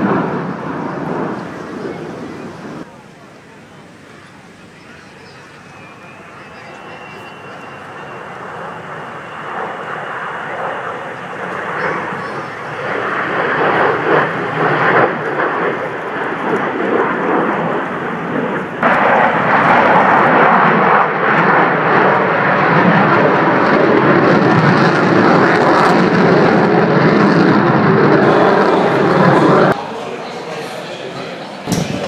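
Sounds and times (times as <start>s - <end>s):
plane flying past: 0.0s - 2.9s, 4.1s - 32.0s.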